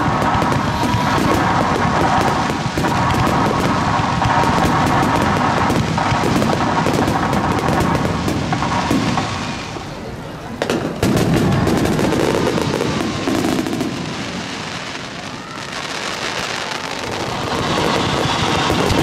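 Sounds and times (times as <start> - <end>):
firework bangs: 0.0 - 19.0
firework crackling: 0.0 - 19.0.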